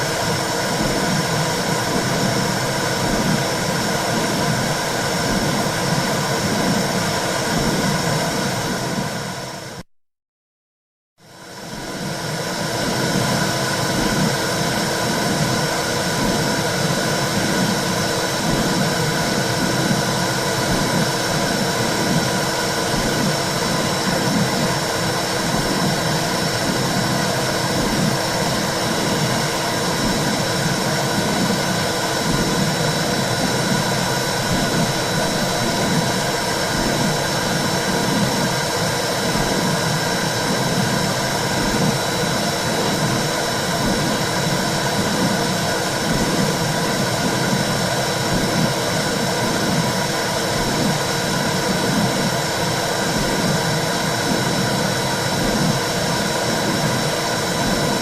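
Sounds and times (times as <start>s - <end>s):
low whooshing rush with pulse: 11.3s - 58.0s.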